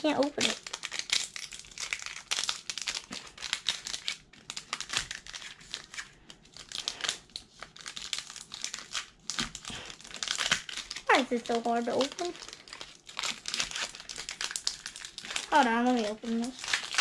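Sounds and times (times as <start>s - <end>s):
foil wrapper crinkling: 0.0s - 17.0s.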